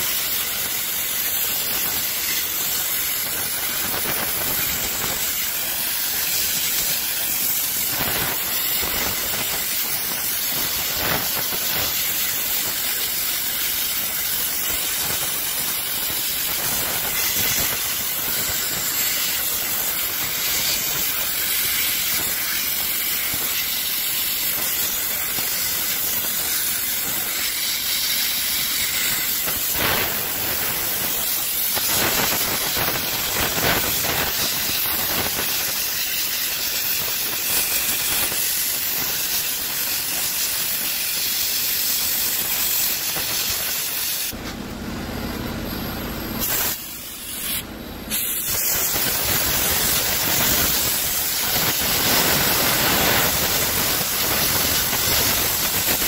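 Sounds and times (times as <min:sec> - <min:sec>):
sandblasting gun hissing: 0:00.0 - 0:44.4, 0:45.8 - 0:56.0.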